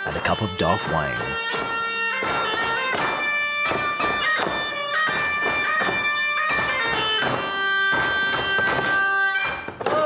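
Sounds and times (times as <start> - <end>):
bagpipe playing a tune: 0.0 - 10.0.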